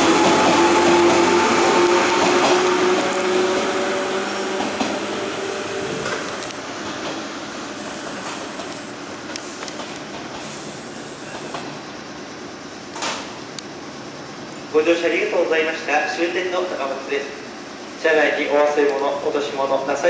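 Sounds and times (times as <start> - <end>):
electric train rumble: 0.0 - 20.0
steady whine: 0.0 - 20.0.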